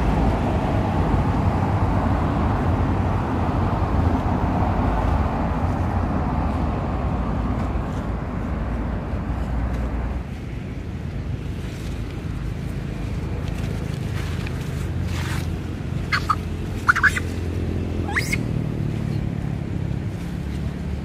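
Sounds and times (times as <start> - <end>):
road traffic rumble: 0.0 - 21.0
vehicle passing: 0.0 - 21.0.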